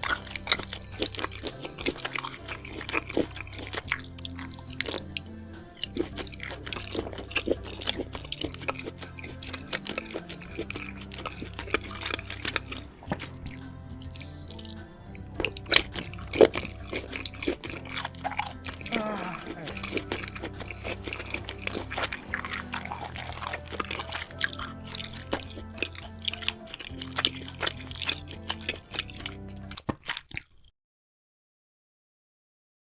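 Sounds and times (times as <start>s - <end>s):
background music with bass line: 0.0s - 29.8s
chewing and crunching food: 0.0s - 30.7s
mouth clicks: 0.0s - 30.7s.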